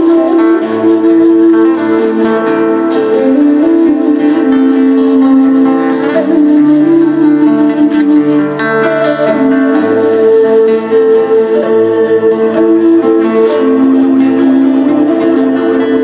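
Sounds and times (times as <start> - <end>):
long held drone tones: 0.0 - 16.0
plucked strings: 0.0 - 16.0.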